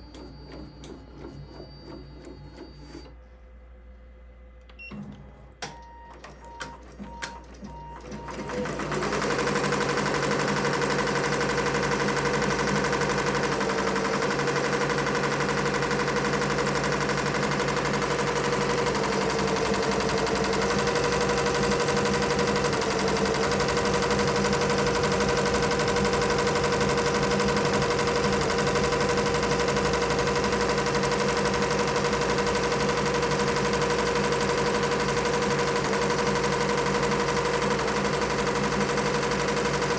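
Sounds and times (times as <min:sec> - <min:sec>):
embroidery machine stitching: 0:06.1 - 0:39.9.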